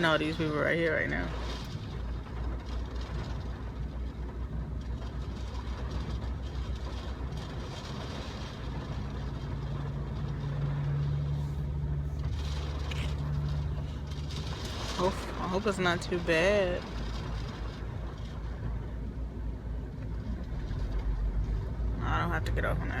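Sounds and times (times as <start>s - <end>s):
car interior road rumble: 0.0s - 23.0s.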